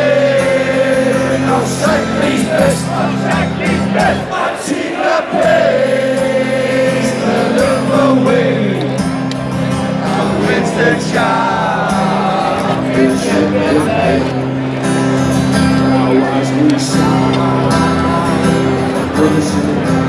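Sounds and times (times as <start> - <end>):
crowd singing a chant: 0.0 - 20.0.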